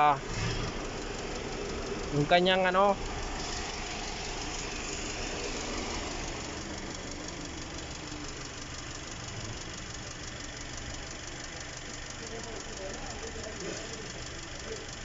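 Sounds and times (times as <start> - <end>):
car engine idling: 0.0 - 15.0
radiator cooling fan: 0.0 - 15.0.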